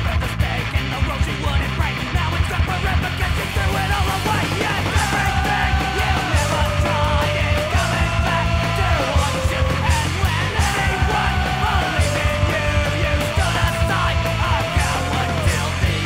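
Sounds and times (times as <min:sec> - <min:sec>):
punk rock band playing: 0:00.0 - 0:16.0
yelled vocals: 0:00.0 - 0:16.0.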